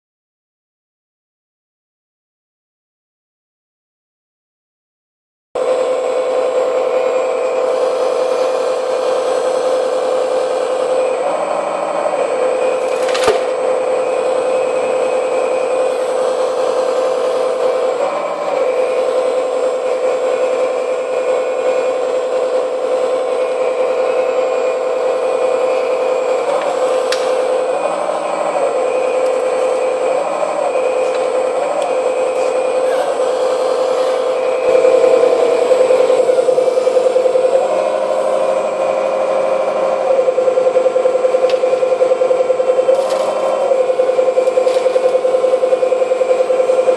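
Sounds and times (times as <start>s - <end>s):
hydraulic pump whine: 5.6s - 46.9s
model engine noise: 5.6s - 46.9s
toy excavator mechanical hum: 5.6s - 46.9s.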